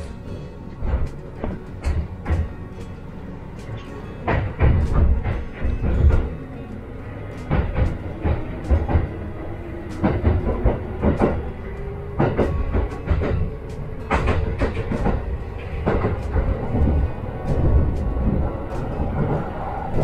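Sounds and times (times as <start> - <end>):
train wheels rumbling on track: 0.0 - 20.0
wheels clacking on rails: 0.0 - 20.0.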